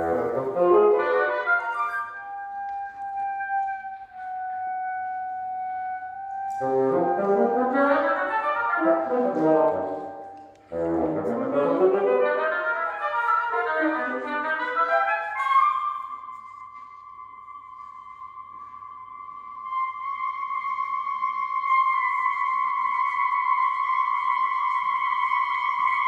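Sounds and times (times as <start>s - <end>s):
wind ensemble chamber music: 0.0s - 26.0s.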